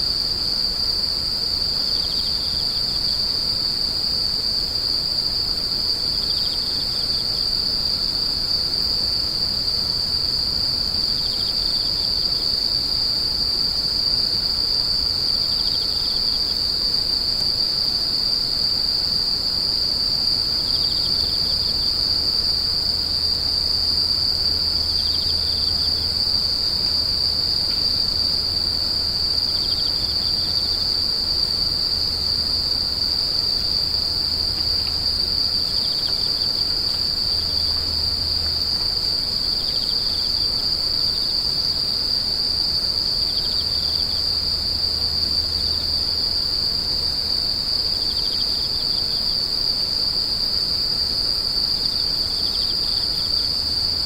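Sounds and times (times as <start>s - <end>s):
insect high-pitched trill: 0.0s - 54.0s.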